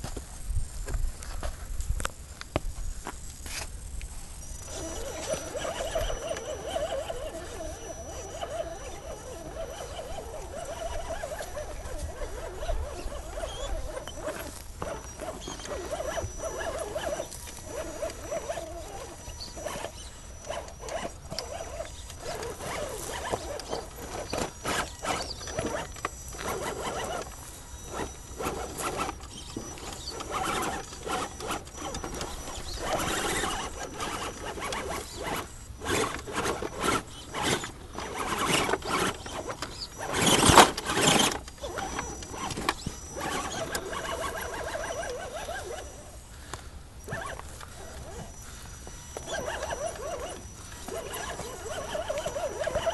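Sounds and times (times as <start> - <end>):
tires scraping on stone: 4.4 - 52.9
toy car drivetrain whining: 4.4 - 52.9.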